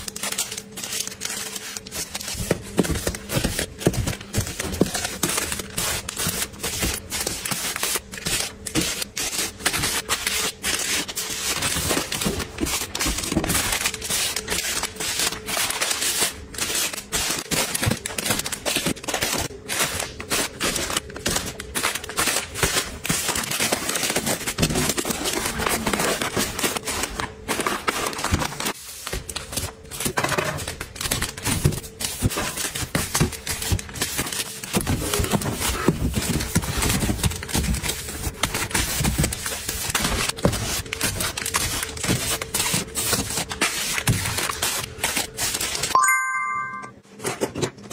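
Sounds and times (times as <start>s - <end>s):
plastic packs crinkling: 0.0s - 45.9s.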